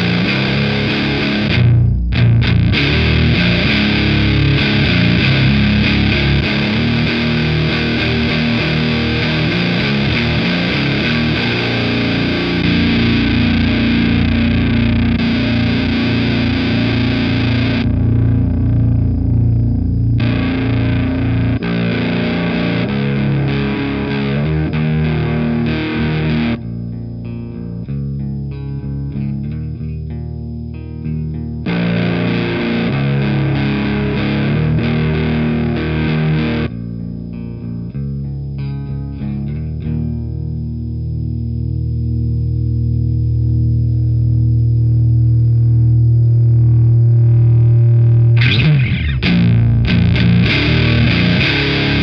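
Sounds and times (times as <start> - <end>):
distorted electric guitar riff: 0.0 - 52.0.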